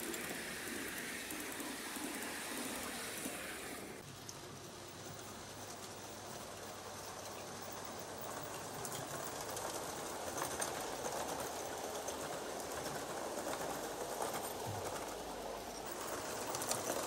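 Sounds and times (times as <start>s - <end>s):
model train wheels on rail: 0.0s - 17.0s.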